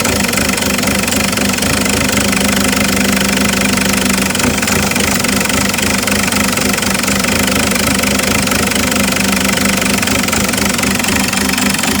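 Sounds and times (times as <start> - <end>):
diesel engine idling clatter: 0.0 - 12.0.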